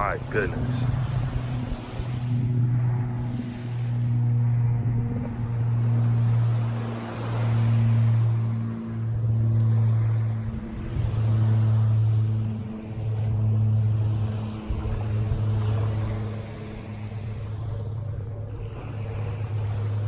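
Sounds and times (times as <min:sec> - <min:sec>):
low motor drone: 0:00.0 - 0:20.0
surf noise: 0:00.0 - 0:20.0.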